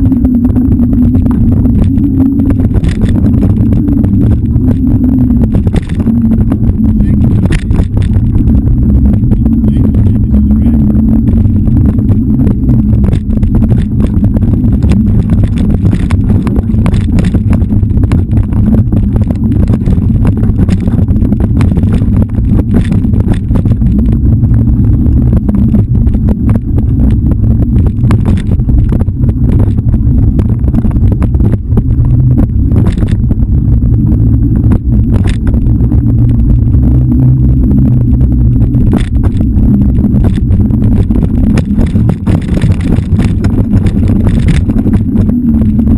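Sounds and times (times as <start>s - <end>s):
trail vibration rumble: 0.0s - 45.9s
wind buffeting: 0.0s - 45.9s.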